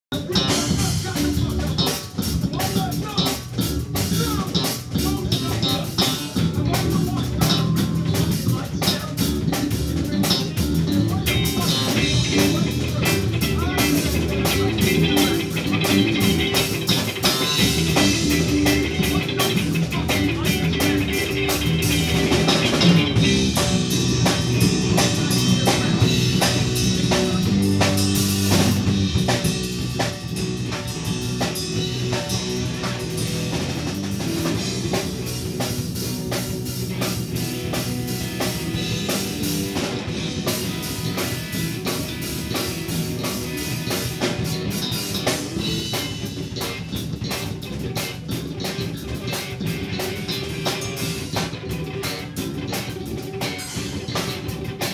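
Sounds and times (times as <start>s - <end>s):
guitar: 0.0s - 54.9s.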